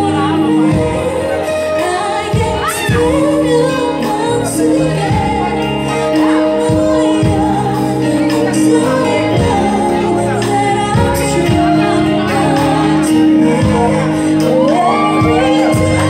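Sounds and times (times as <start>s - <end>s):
bass: 0.0s - 16.0s
drums: 0.0s - 16.0s
electric guitar: 0.0s - 16.0s
keyboard: 0.0s - 16.0s
woman singing: 0.0s - 16.0s.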